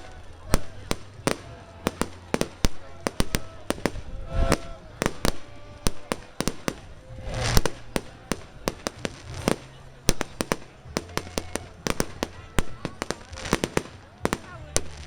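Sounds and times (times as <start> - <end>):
faint voices: 0.0 - 15.0
firecrackers banging: 0.0 - 15.0
hissing firework burst: 0.0 - 15.0.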